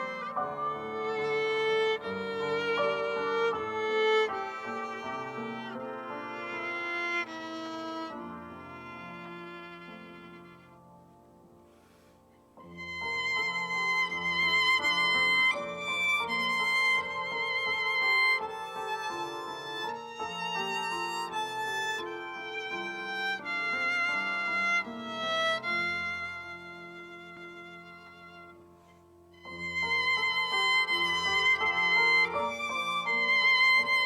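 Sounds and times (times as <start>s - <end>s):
violin slow melody: 0.0s - 34.0s.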